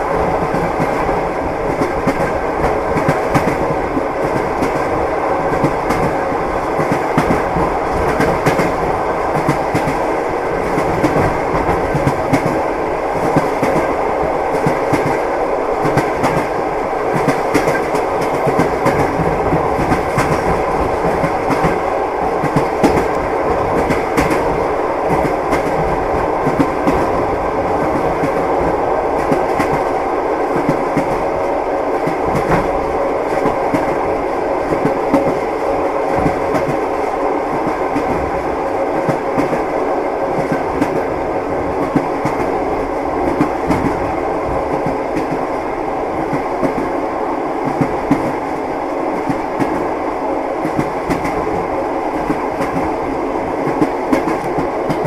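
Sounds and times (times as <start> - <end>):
train wheels clattering on rails: 0.0 - 47.0, 47.6 - 49.9, 50.6 - 55.0.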